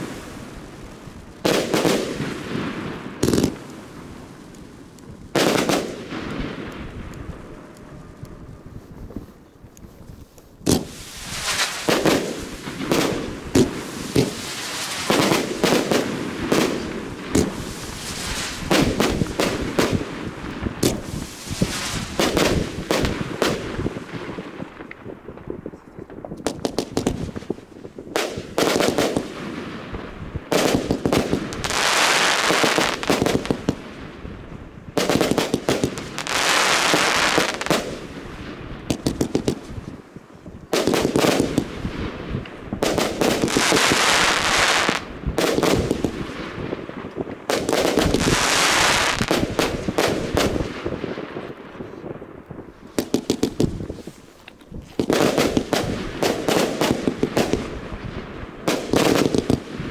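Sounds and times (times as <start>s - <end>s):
firework bangs: 0.0s - 8.2s, 10.6s - 40.0s, 40.7s - 59.9s
firework rushing crackle: 0.0s - 59.9s.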